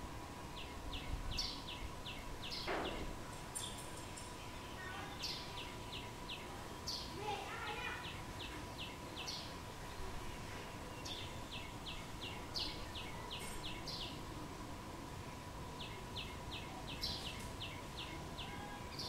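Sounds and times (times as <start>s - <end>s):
faint steady whine: 0.0s - 19.0s.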